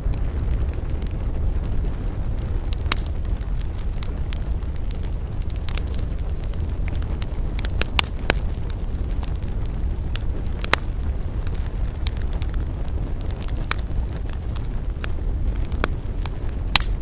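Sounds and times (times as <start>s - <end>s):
fire crackles and pops: 0.0s - 17.0s
wood fire rumbling: 0.0s - 17.0s.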